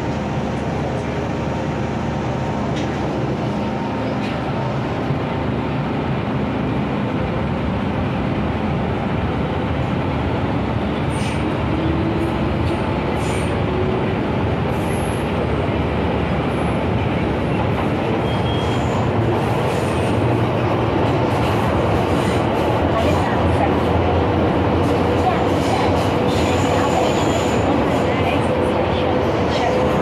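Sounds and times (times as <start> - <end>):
metro train wheels rumbling on rail: 0.0 - 30.0.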